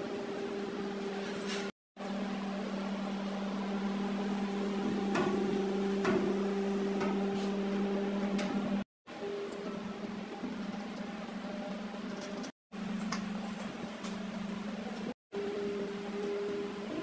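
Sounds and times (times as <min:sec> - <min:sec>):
low machine hum: 0:02.0 - 0:17.0.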